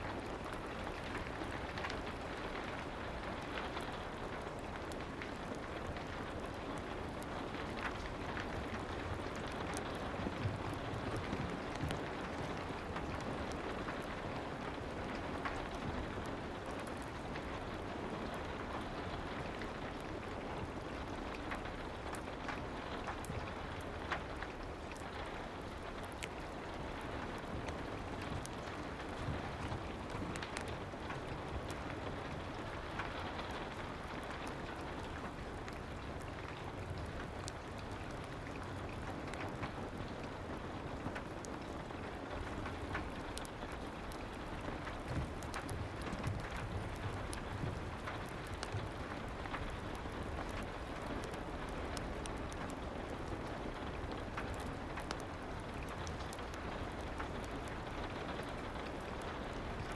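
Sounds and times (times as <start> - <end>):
fireplace crackling and popping: 0.0 - 59.9
soft rain hissing: 0.0 - 59.9.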